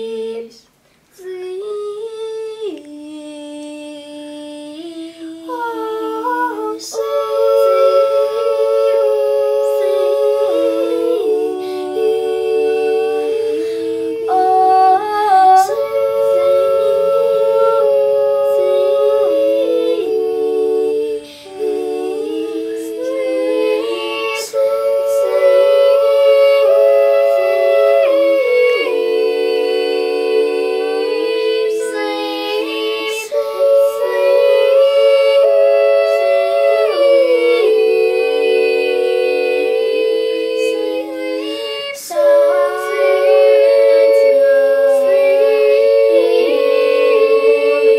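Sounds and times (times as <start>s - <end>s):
a cappella group singing: 0.0s - 47.9s.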